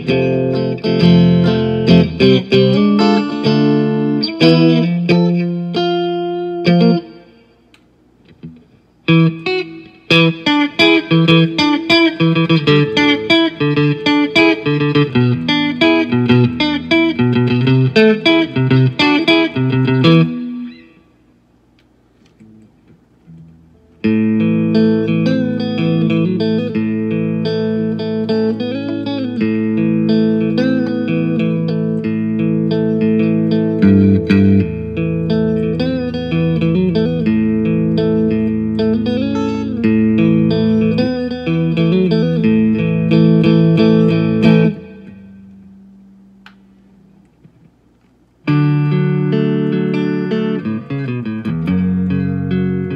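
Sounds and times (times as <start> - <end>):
electric guitar picking single notes: 0.0 - 52.9.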